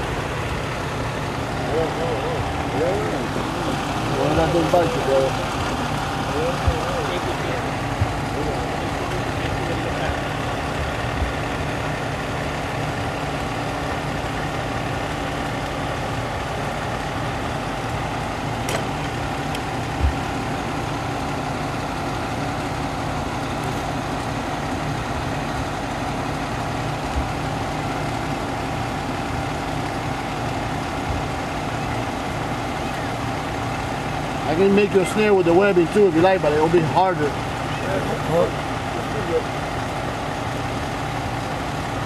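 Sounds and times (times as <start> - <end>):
vehicle engine idling: 0.0 - 42.0.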